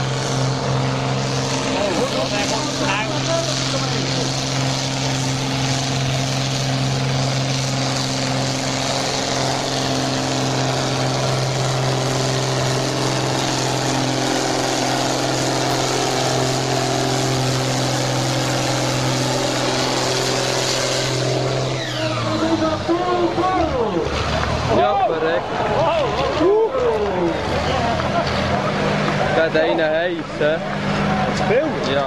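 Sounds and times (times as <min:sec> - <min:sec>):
tractor diesel engine droning: 0:00.0 - 0:32.0.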